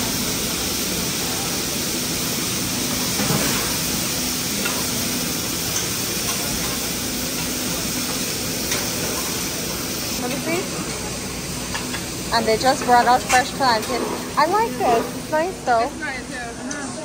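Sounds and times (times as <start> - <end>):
food sizzling on grill: 0.0 - 17.0.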